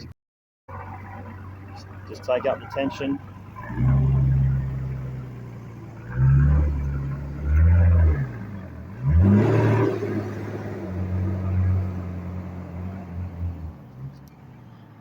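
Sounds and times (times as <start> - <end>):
engine revving in surges: 0.7 - 14.8.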